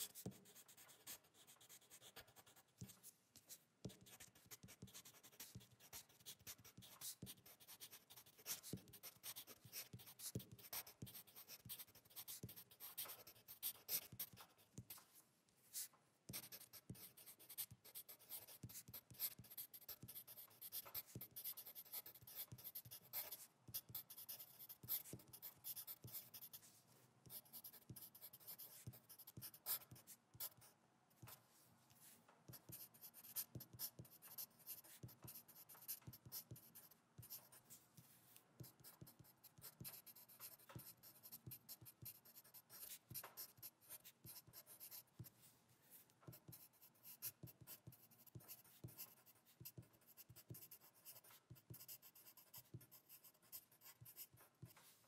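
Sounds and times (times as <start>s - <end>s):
pen scratching on paper: 0.0s - 15.0s, 15.7s - 30.7s, 32.0s - 45.3s, 46.3s - 55.0s.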